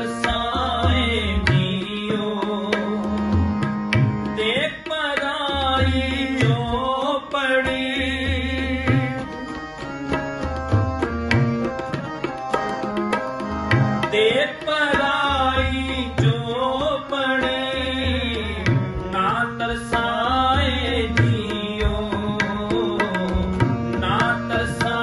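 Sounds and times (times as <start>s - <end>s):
man singing: 0.0s - 9.5s, 14.0s - 25.0s
harmonium chords: 0.0s - 25.0s
tabla rhythm: 0.0s - 25.0s.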